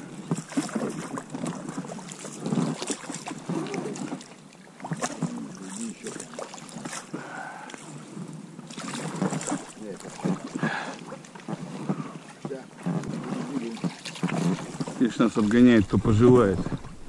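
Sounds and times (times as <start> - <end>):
paddle splashes: 0.0 - 17.0.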